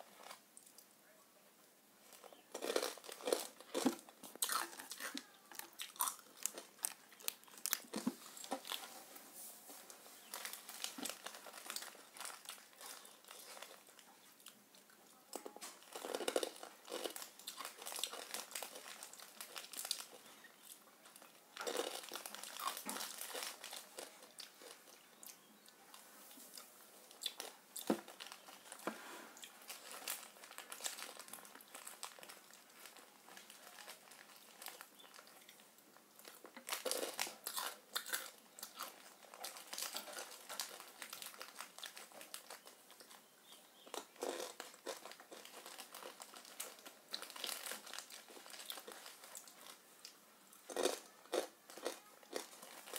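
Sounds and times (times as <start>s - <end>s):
crinkling and crackling: 2.0s - 52.9s.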